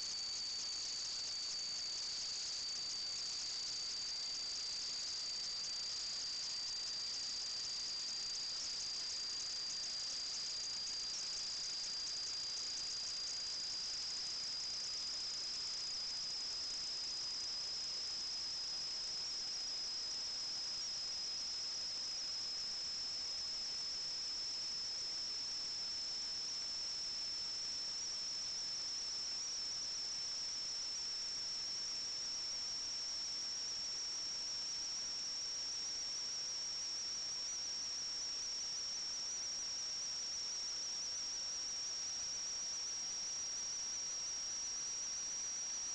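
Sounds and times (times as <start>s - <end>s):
high-pitched whine: 0.0s - 45.8s.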